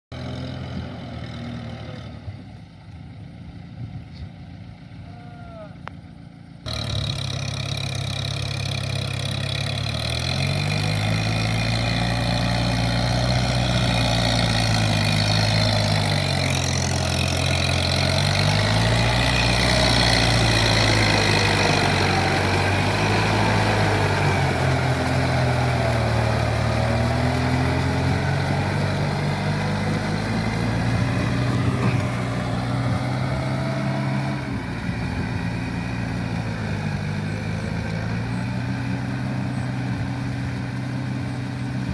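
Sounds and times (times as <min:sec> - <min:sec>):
tractor diesel engine running: 0:00.1 - 0:41.9.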